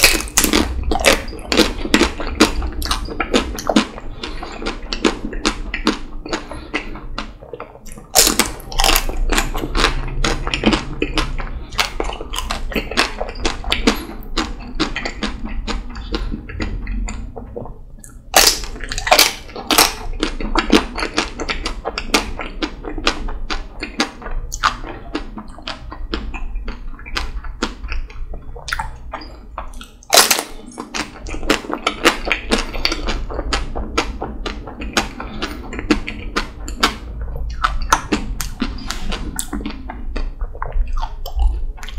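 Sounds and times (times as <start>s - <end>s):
crackly chewing: 0.0s - 41.9s.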